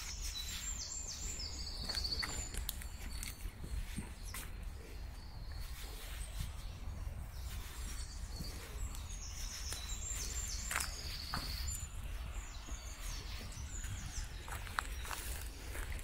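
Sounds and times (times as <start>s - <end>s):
footsteps on dry twigs: 0.0s - 16.0s
steady low rumble: 0.0s - 16.0s.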